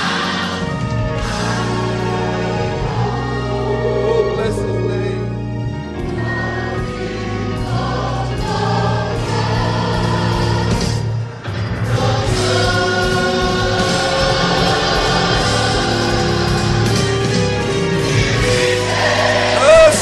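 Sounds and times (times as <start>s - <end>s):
gospel choir singing: 0.0s - 20.0s
steady low bass: 0.0s - 20.0s.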